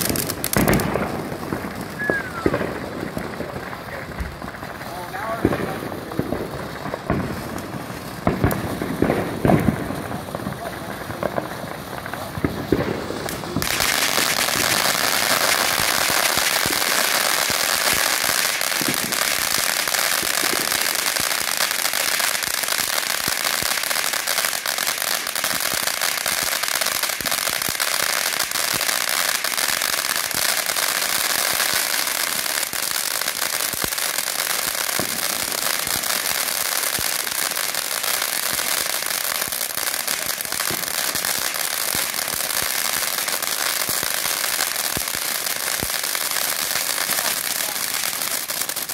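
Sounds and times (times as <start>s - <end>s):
firework fountain hissing and crackling: 0.0s - 48.9s.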